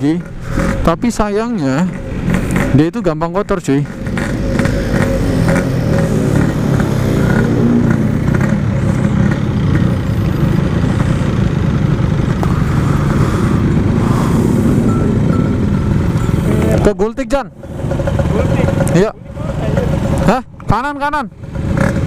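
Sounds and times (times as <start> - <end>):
two-stroke motorcycle engine running: 0.0 - 22.0.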